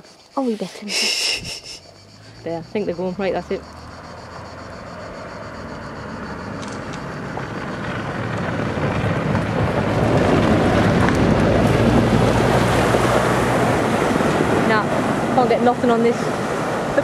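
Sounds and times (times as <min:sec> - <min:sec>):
diesel engine passing: 0:00.1 - 0:17.0.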